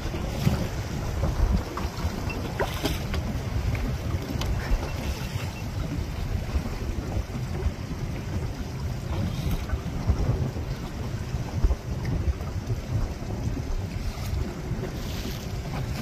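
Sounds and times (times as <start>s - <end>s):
choppy sea washing around boat: 0.0s - 16.0s
wind on microphone: 0.0s - 16.0s.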